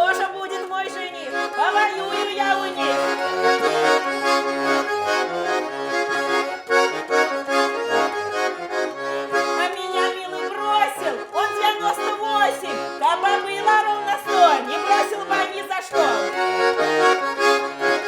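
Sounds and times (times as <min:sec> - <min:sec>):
button accordion playing: 0:00.0 - 0:18.0.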